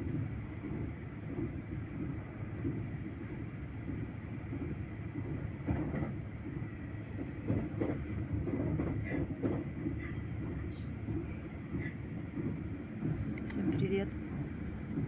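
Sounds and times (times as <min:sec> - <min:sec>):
train rumbling on rails: 0:00.0 - 0:15.0
wheels knocking on track: 0:00.1 - 0:15.0.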